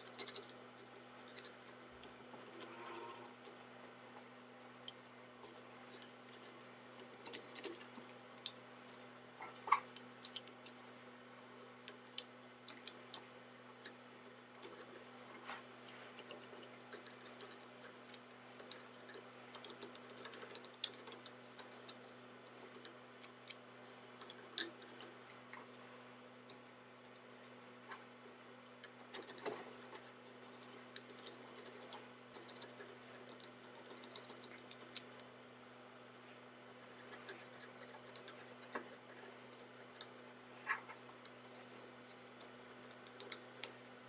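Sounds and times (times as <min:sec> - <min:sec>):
faint clicks taps and scratches: 0:00.0 - 0:44.0
steady low hum: 0:00.0 - 0:44.0.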